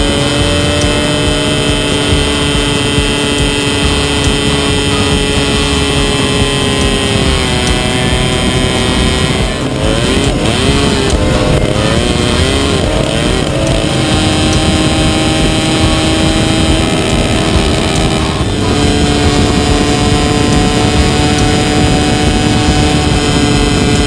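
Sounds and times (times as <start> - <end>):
two-stroke kart engine revving: 0.0 - 24.0.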